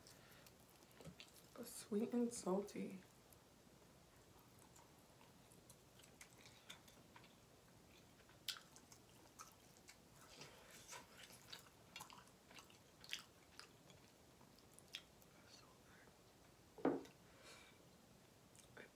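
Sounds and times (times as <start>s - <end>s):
faint close-up chewing: 0.0s - 2.2s, 3.0s - 17.2s, 18.5s - 18.9s.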